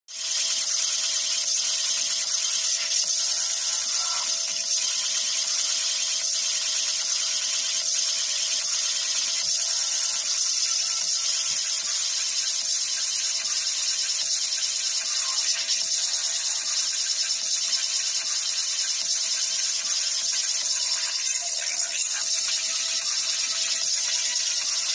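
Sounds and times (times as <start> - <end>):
tesla coil high-pitched hissing buzz: 0.3 - 24.9.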